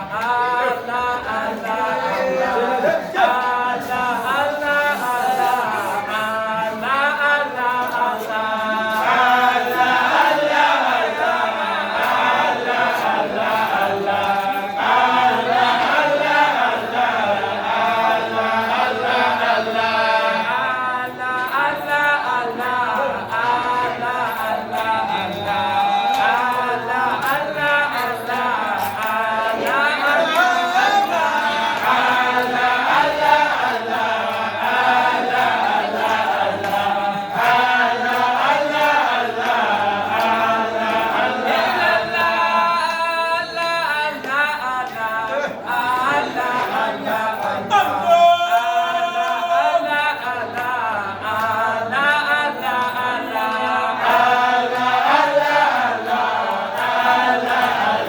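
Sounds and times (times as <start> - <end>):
group of voices chanting: 0.0 - 43.4, 44.2 - 58.0.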